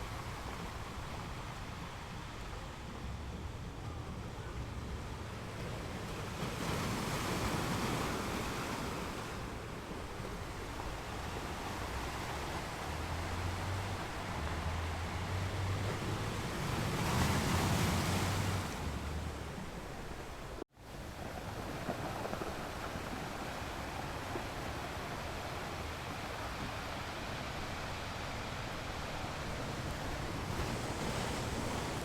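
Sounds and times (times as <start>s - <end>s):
ocean waves breaking on beach: 0.0s - 32.0s.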